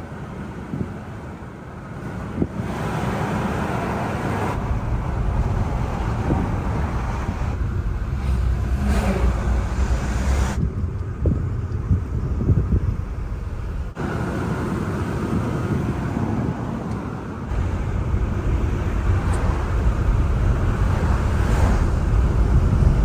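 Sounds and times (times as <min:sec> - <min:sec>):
wind and road noise in car: 0:00.0 - 0:23.0.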